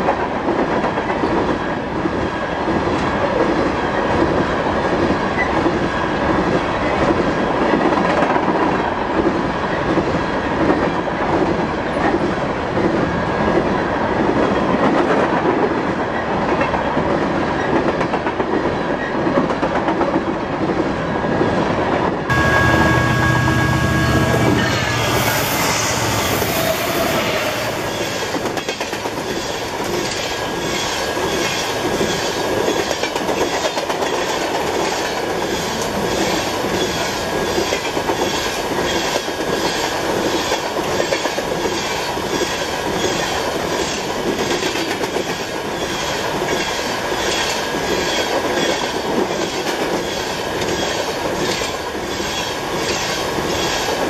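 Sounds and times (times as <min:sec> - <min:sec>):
clickety-clack over rail joints: 0:00.0 - 0:22.3, 0:28.0 - 0:54.0
train wheels rumbling on rails: 0:00.0 - 0:54.0.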